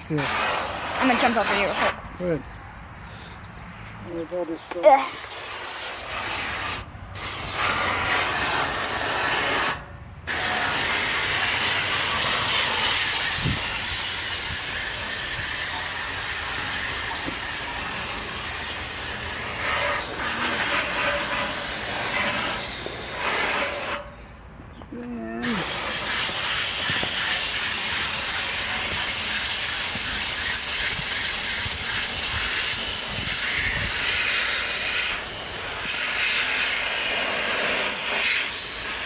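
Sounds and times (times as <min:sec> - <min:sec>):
hose water spraying on coils: 0:00.0 - 0:02.0, 0:05.3 - 0:24.0, 0:25.4 - 0:39.0.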